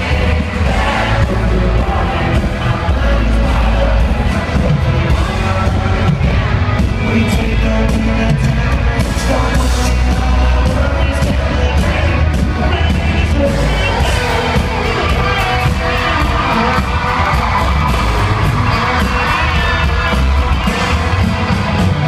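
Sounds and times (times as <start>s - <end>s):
live country band playing: 0.0s - 22.0s
person singing: 0.0s - 22.0s.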